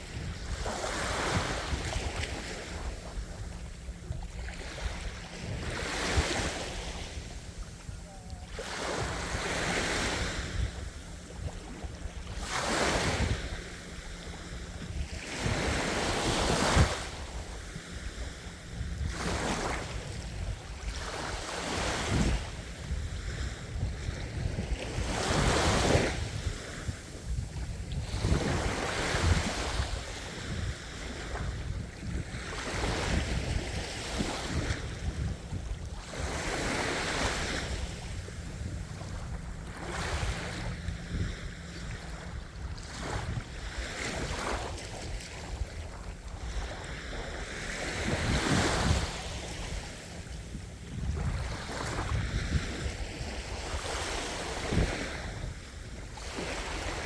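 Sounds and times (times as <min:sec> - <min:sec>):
ocean waves breaking on shore: 0:00.0 - 0:57.0
wind on microphone: 0:00.0 - 0:57.0.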